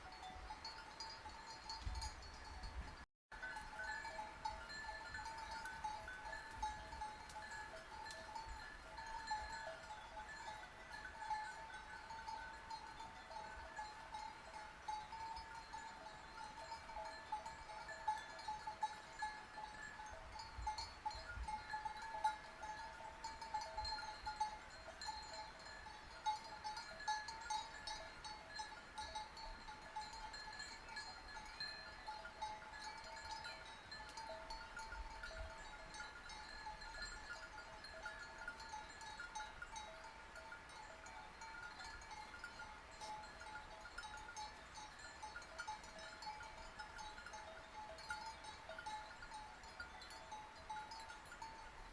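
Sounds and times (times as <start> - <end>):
sheep bells clanking: 0.0 - 51.9.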